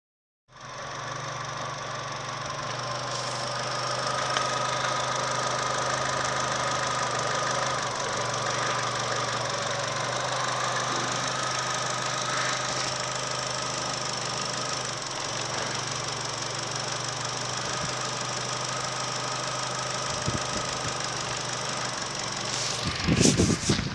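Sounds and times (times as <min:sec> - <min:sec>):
high engine whine: 0:00.5 - 0:23.9
car engine idling: 0:00.6 - 0:23.9.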